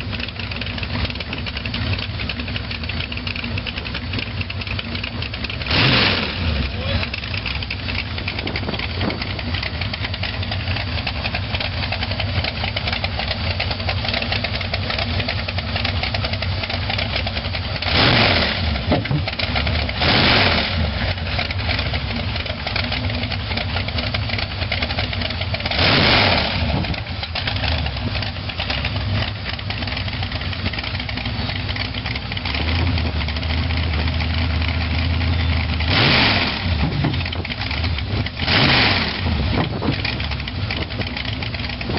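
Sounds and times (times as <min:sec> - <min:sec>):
car engine idling: 0:00.0 - 0:41.9
engine revving: 0:04.9 - 0:41.9.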